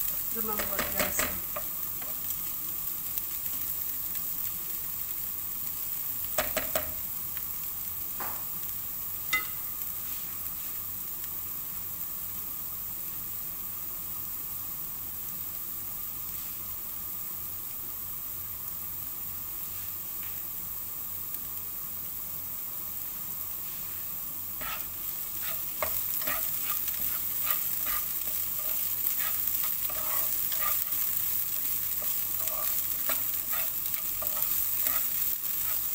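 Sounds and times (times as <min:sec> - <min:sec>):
onion sizzling in oil: 0:00.0 - 0:35.9.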